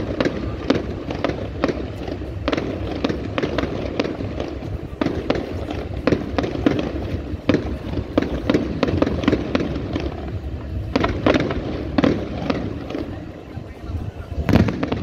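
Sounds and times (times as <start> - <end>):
fireworks banging: 0.0 - 15.0
low rumble: 0.0 - 15.0.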